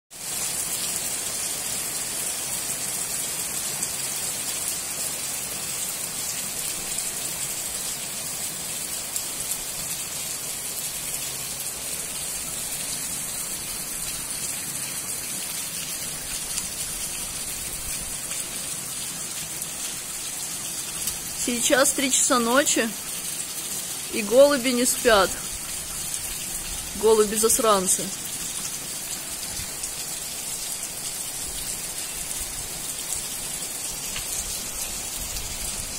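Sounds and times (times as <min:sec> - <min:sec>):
rain on wet pavement: 0:00.1 - 0:35.9.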